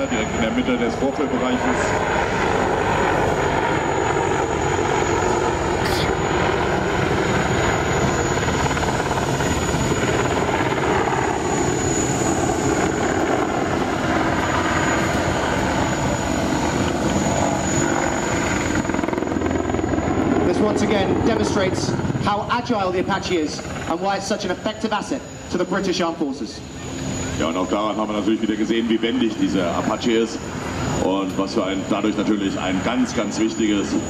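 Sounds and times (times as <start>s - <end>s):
helicopter rotor and engine noise: 0.0s - 34.0s.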